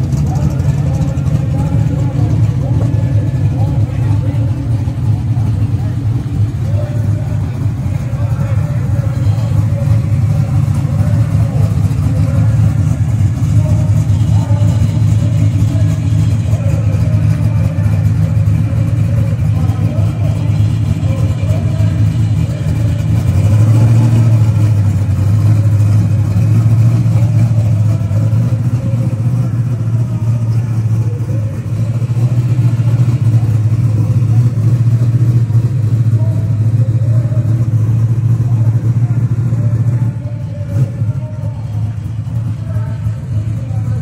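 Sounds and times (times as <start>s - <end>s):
car engine idling loudly: 0.0s - 44.0s.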